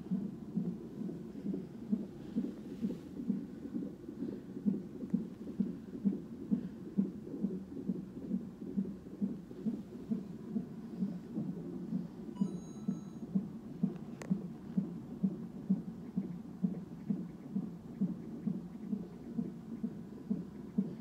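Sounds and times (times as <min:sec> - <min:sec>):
fetal heartbeat whooshing pulse: 0:00.0 - 0:21.0.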